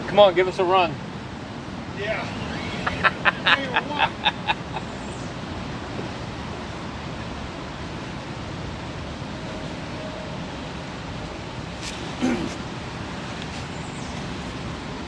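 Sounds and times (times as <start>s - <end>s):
flowing stream water: 0.0s - 15.0s.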